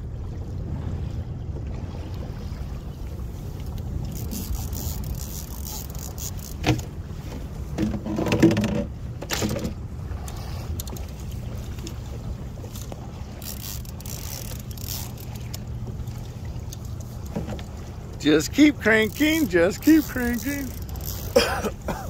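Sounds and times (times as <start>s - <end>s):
water around boat: 0.0s - 22.0s
wind: 0.0s - 22.0s
rod and reel clattering: 3.7s - 22.0s.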